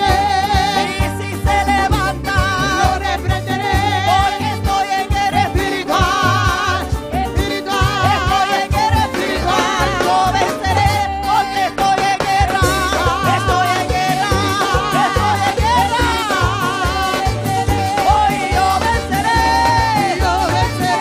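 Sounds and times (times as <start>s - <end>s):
lead singer and choir singing: 0.0s - 21.0s
upbeat band with drums: 0.0s - 21.0s.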